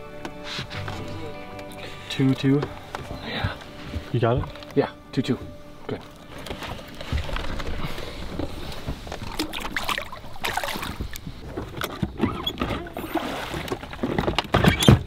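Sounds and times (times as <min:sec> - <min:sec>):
water and wind against hull: 0:01.9 - 0:15.0.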